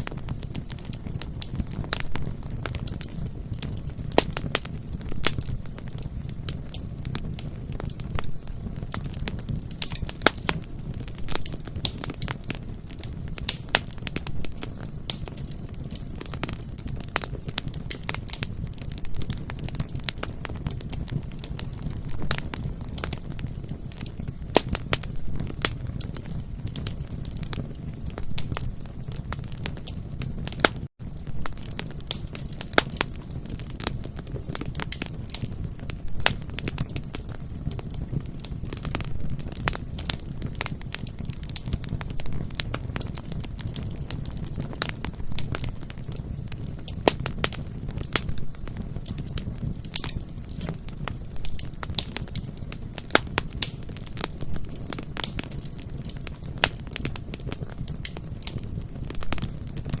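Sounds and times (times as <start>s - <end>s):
burning wood crackling: 0.0s - 60.0s
low rumble of flames: 0.0s - 60.0s.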